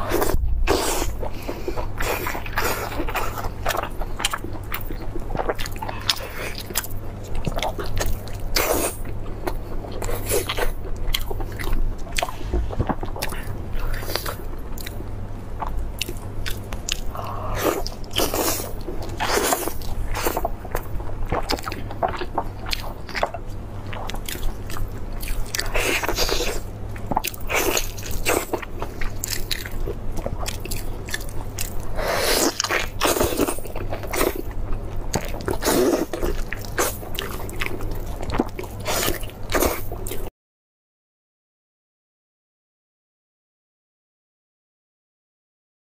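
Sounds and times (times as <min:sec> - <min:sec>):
biting and chewing meat: 0:00.0 - 0:40.3.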